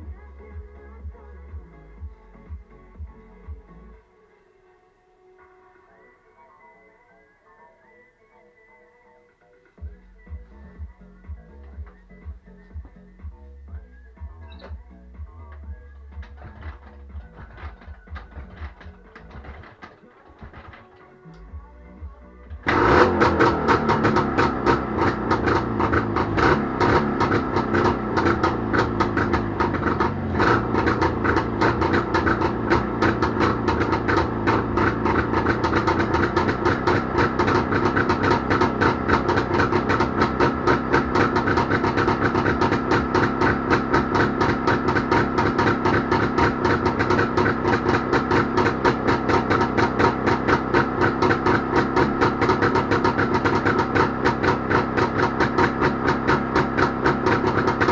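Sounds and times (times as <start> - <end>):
motorcycle engine idling: 9.8 - 57.9.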